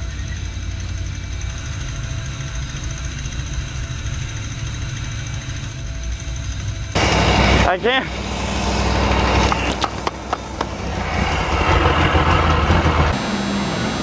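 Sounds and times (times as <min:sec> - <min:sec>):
motorhome engine running: 0:00.0 - 0:14.0.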